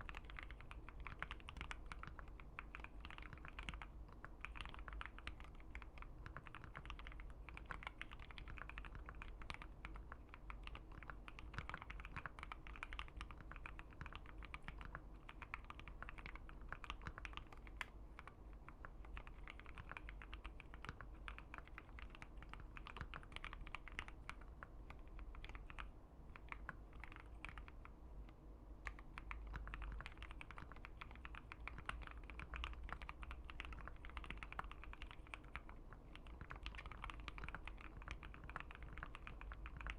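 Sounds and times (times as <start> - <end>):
mechanical keyboard typing: 0.0 - 27.9, 28.8 - 39.9.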